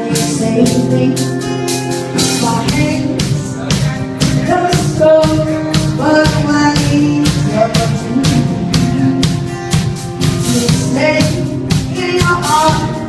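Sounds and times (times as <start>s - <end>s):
band playing pop song: 0.0s - 13.0s.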